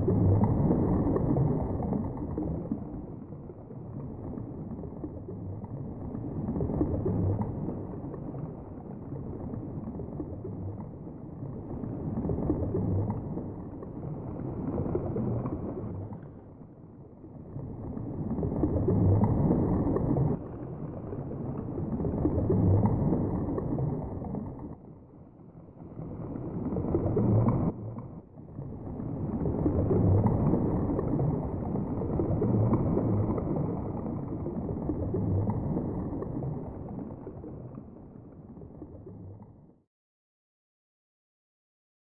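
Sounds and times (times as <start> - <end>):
muffled underwater water rumble: 0.0 - 39.9.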